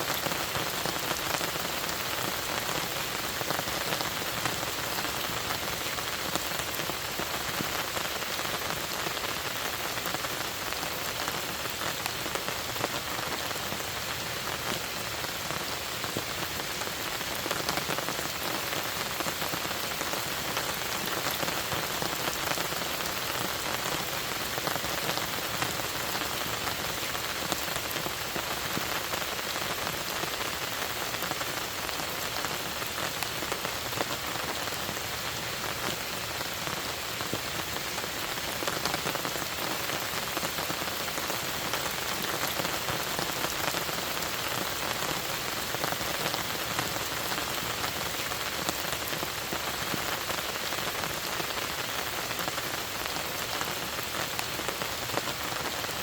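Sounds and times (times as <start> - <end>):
rain falling on a lake: 0.0 - 56.0.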